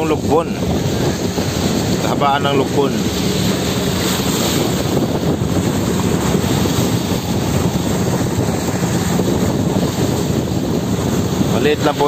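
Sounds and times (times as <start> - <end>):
boat engine thrumming: 0.0 - 12.0
rush of wind: 0.0 - 12.0.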